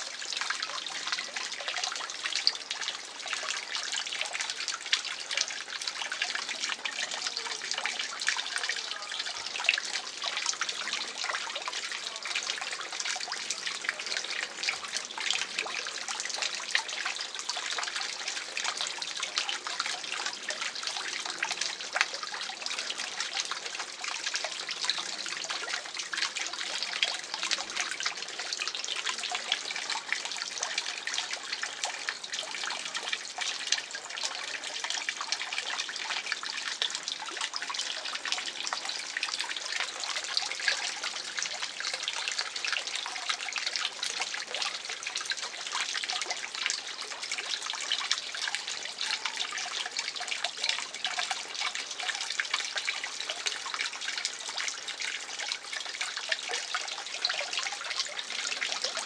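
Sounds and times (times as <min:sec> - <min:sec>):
pond water trickling and splashing: 0:00.0 - 0:59.0.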